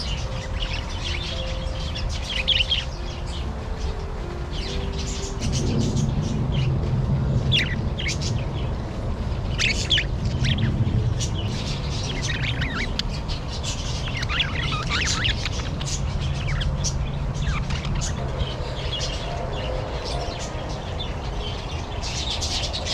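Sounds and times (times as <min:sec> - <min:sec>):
budgerigars chirping: 0:00.0 - 0:06.8, 0:07.4 - 0:22.9
steady low hum: 0:00.0 - 0:22.9.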